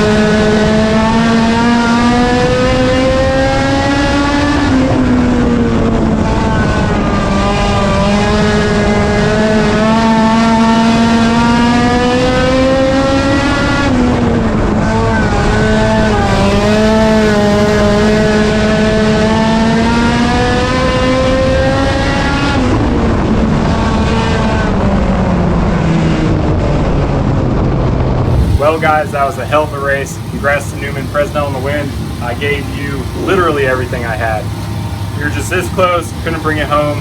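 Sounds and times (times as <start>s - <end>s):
race car engine at high revs: 0.0s - 37.0s.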